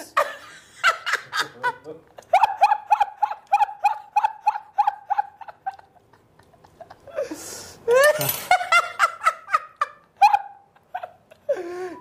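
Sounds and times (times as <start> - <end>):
man laughing hard: 0.2 - 12.0.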